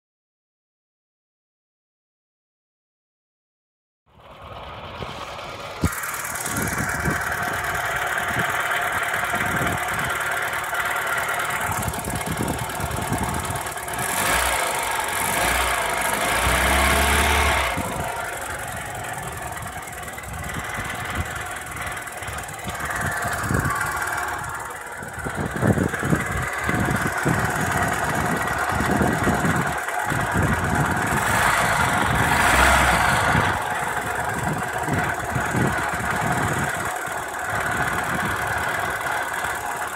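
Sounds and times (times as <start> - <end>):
car engine whirring: 4.1 - 39.9
engine knocking: 4.1 - 39.9
engine rasping rattle: 4.1 - 39.9.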